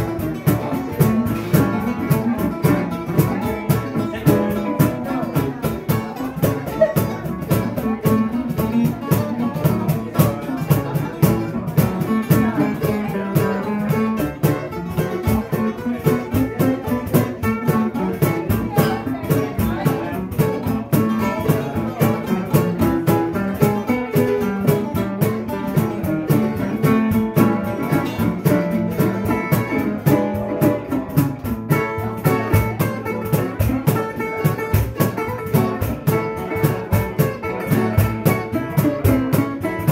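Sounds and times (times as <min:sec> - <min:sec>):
cajon beat: 0:00.0 - 0:39.9
plucked guitars: 0:00.0 - 0:39.9.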